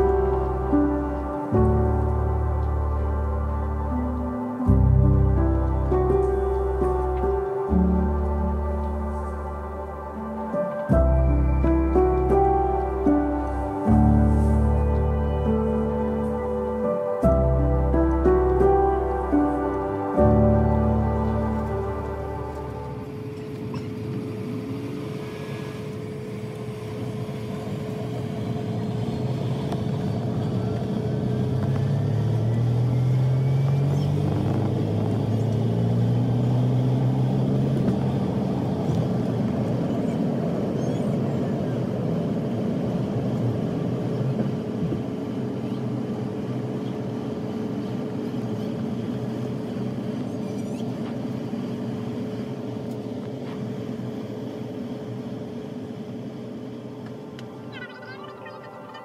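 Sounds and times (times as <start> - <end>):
runway rumble: 0.0 - 54.2
jet engines spooling up: 0.0 - 59.0.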